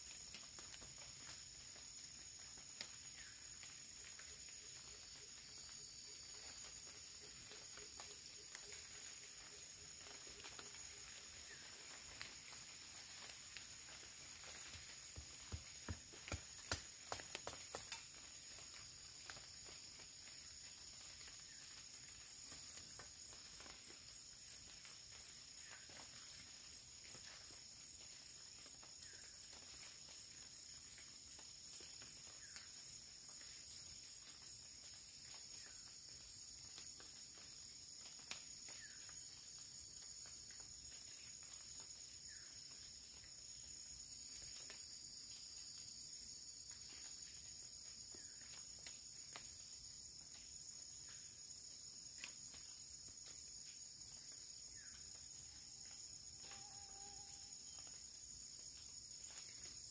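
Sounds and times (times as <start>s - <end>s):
kindling crackling as it catches fire: 0.0s - 56.9s, 57.5s - 59.9s
insect chorus droning: 0.0s - 59.9s.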